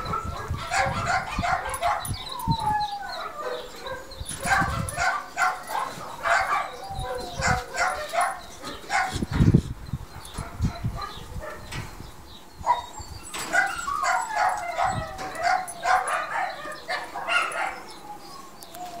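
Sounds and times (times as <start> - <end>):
dog whining and yipping: 0.0 - 9.2, 12.6 - 19.0.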